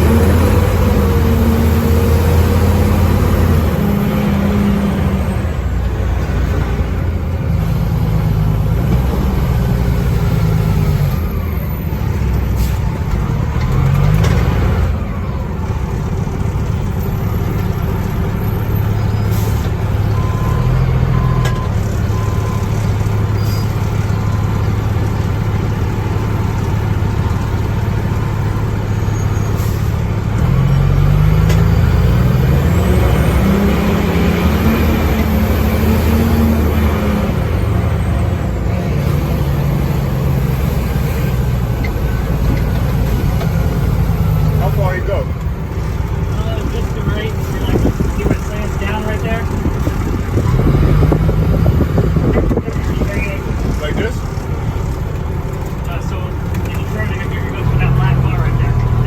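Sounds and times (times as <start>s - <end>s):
fire engine diesel engine running: 0.0s - 59.0s.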